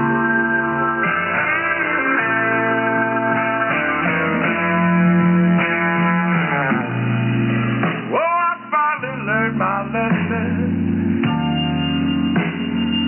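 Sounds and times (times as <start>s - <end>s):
tinny guitar music over radio: 0.0s - 13.0s.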